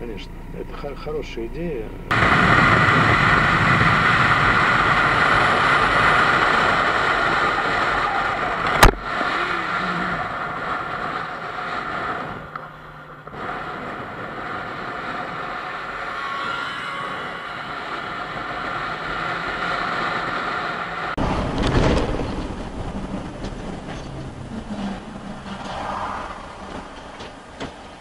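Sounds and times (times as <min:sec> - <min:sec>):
motorcycle engine at speed: 0:01.6 - 0:28.0
wind rush: 0:02.1 - 0:28.0.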